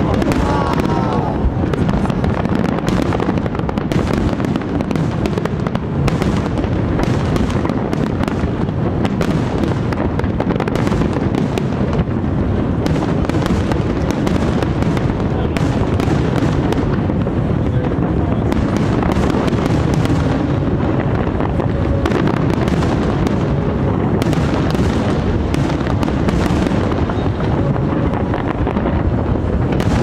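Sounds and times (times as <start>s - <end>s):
fireworks crackles and bangs: 0.0s - 30.0s
rumble of fireworks booms: 0.0s - 30.0s.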